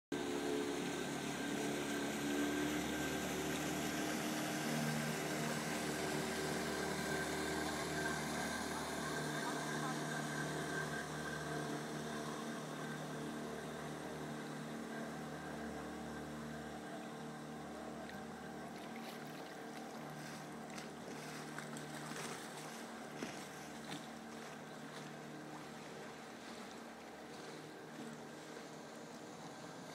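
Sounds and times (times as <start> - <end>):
boat engine running: 0.1 - 29.9.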